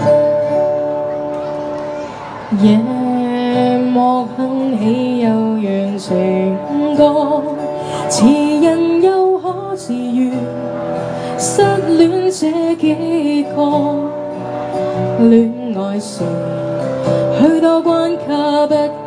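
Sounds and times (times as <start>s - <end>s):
acoustic guitar: 0.0s - 19.0s
woman singing into microphone: 2.5s - 19.0s.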